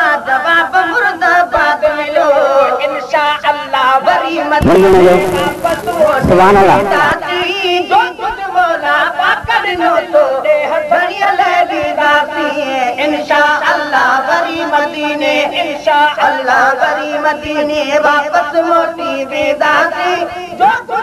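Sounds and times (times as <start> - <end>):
voices chanting devotional song: 0.0 - 21.0.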